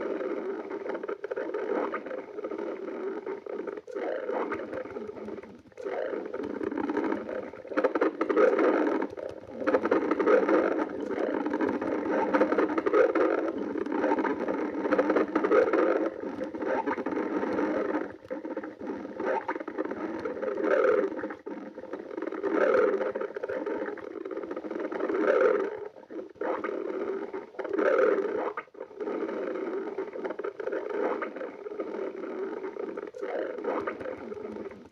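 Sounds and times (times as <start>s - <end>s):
stomach growling and gurgling: 0.0s - 34.9s.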